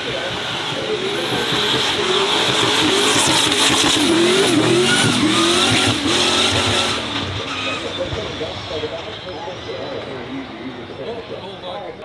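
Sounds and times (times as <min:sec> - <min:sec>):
tyre squeal: 0:00.0 - 0:11.6
racing car engine revving: 0:00.0 - 0:12.0.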